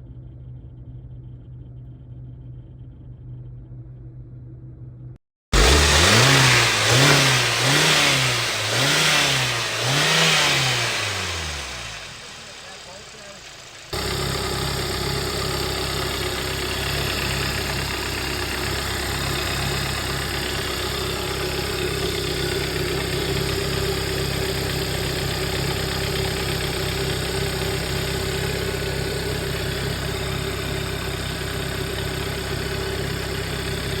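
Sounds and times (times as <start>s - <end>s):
car engine droning: 5.6s - 34.0s.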